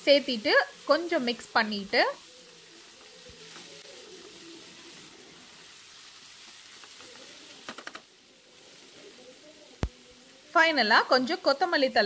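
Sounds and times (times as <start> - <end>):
curry sizzling in a pan: 0.0 - 12.0.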